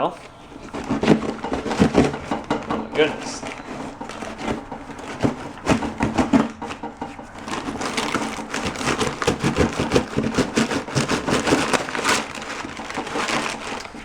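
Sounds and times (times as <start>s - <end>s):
crinkling of crumpled packing: 0.0s - 14.0s
objects knocking: 0.0s - 14.0s.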